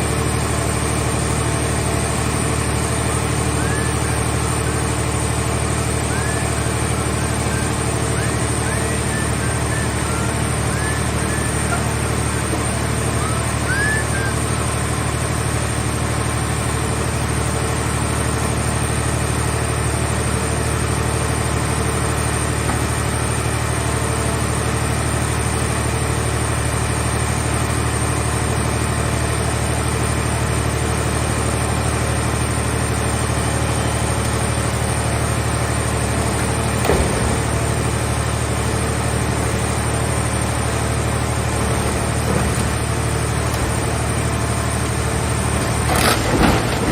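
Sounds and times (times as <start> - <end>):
baler engine droning: 0.0 - 46.9.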